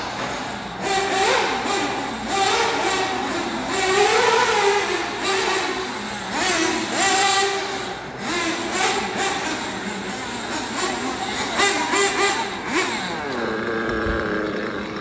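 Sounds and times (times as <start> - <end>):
nitro engine revving high: 0.0 - 15.0.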